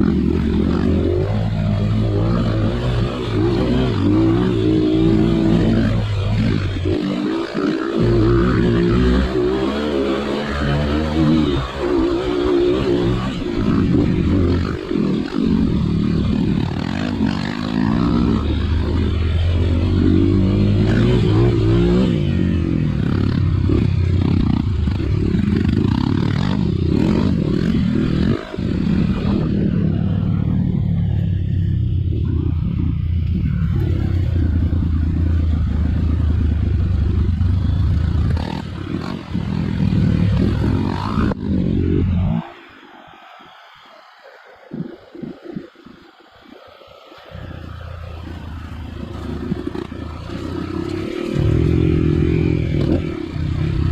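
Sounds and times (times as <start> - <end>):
dirt bike engine revving: 0.0 - 42.5, 47.2 - 53.9.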